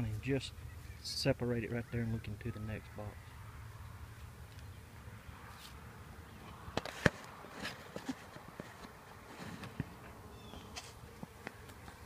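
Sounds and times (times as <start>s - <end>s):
honey bees humming: 0.0s - 12.0s.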